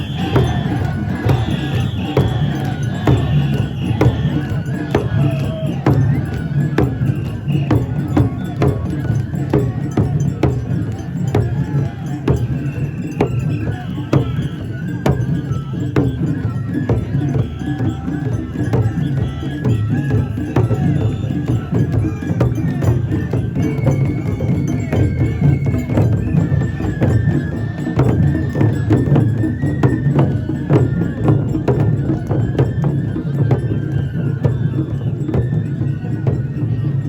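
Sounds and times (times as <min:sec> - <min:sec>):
crowd: 0:00.0 - 0:37.0
drums: 0:00.0 - 0:37.0.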